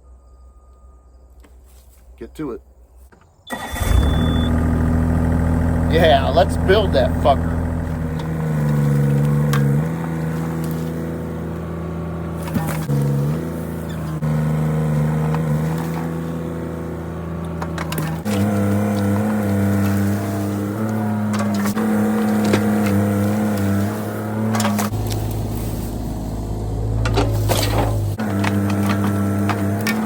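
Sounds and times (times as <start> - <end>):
mini excavator diesel engine: 3.2 - 30.0.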